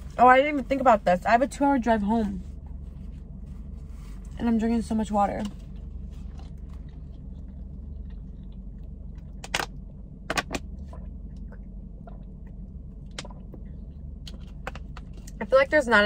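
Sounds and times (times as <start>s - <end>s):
low hum inside a car: 0.0s - 16.0s.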